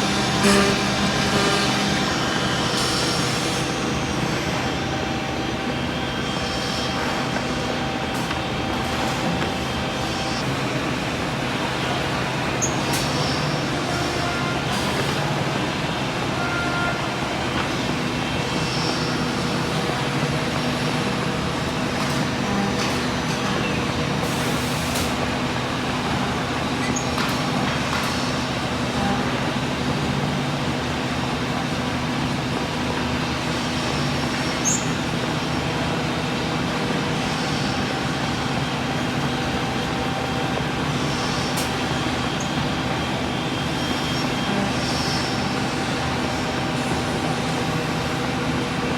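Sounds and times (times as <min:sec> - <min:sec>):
milling machine running: 0:00.0 - 0:48.9.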